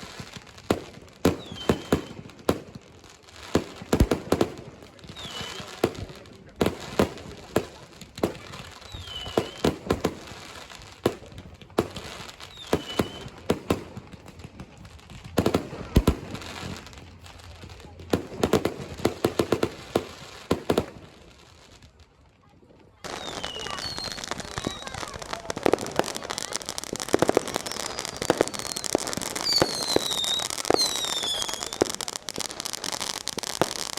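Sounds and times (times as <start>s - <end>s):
fireworks bangs: 0.0s - 21.8s, 23.0s - 33.9s
firecrackers rapid pops: 0.0s - 22.2s, 22.9s - 33.9s.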